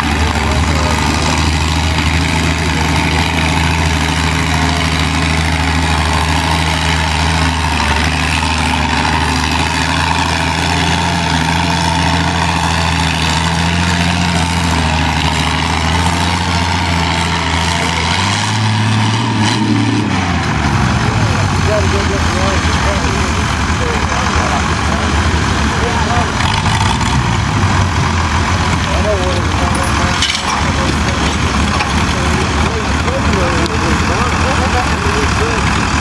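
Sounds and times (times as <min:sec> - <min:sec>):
tractor engine running hard: 0:00.0 - 0:36.0.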